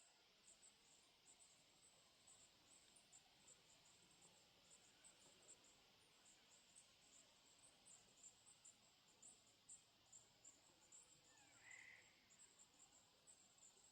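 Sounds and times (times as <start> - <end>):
insects chirping: 0.4 - 13.9.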